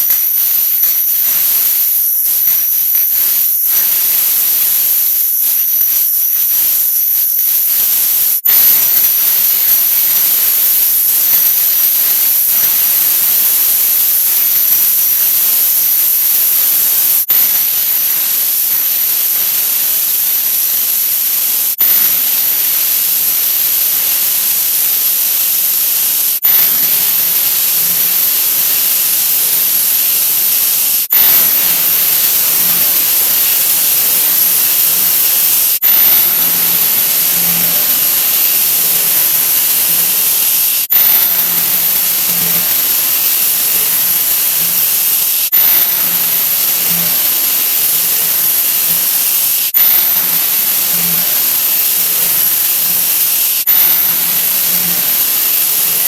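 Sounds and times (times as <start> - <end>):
loud high hiss: 0.0 - 56.0.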